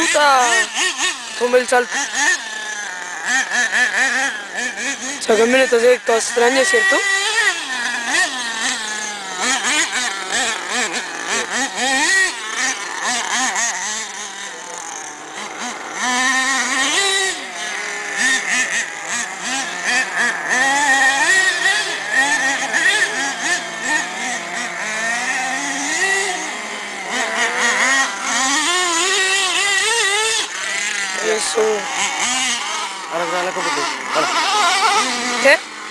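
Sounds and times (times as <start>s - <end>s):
model truck engines buzzing: 0.0s - 35.9s.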